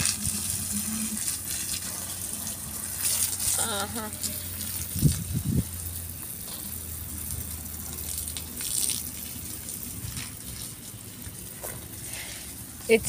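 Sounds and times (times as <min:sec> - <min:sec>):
garden hose spraying water: 0:00.0 - 0:13.0.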